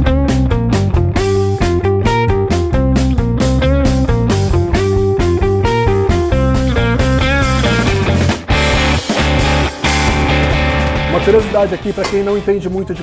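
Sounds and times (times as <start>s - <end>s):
guitar rock music: 0.0s - 13.0s.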